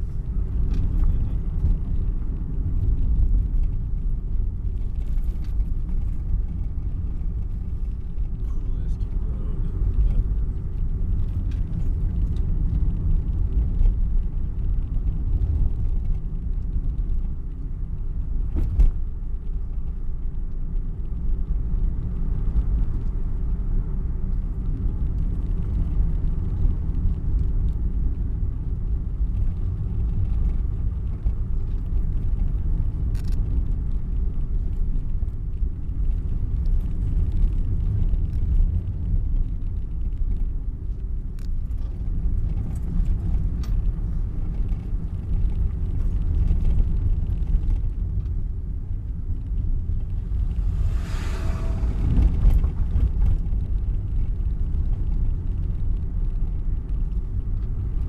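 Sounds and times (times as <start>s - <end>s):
car engine rumble: 0.0s - 58.0s
tyres on road: 0.0s - 58.0s.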